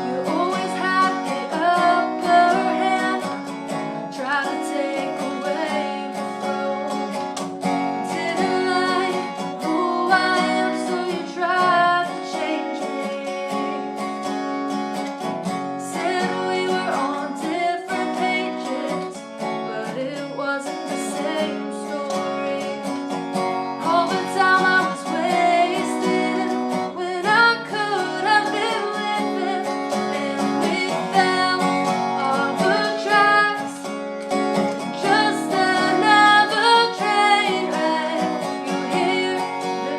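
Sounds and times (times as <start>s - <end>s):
person singing: 0.0s - 14.0s, 15.7s - 23.0s, 23.8s - 39.9s
strummed acoustic guitar: 0.0s - 39.9s.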